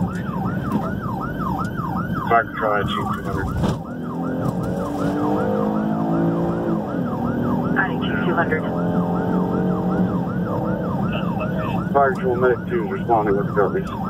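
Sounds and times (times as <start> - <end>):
siren yelping: 0.0 - 14.0
vehicle hum: 0.0 - 14.0.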